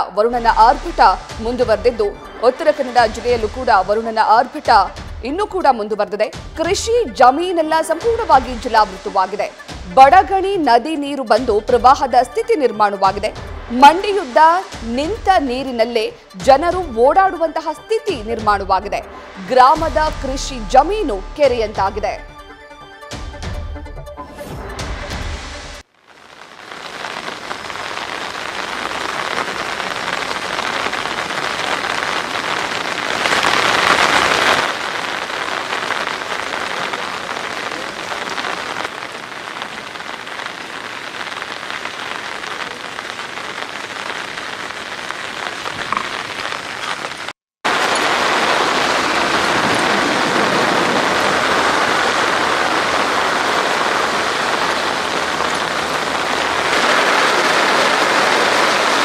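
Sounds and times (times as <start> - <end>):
heavy rain pouring: 0.0 - 21.9, 24.6 - 59.0.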